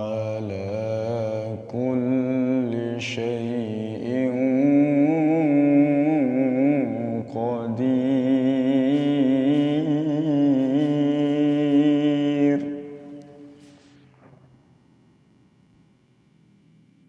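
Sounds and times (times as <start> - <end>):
man reciting melodically: 0.0 - 13.9.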